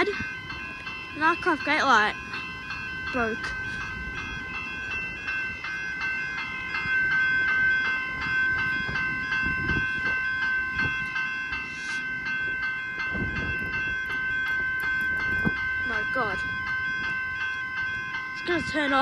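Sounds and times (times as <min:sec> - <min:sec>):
level crossing bell ringing: 0:00.0 - 0:19.0.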